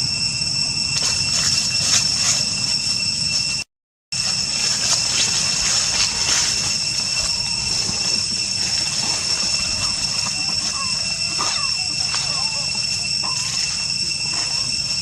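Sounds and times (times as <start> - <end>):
high-pitched drone: 0.0 - 3.6, 4.2 - 15.0.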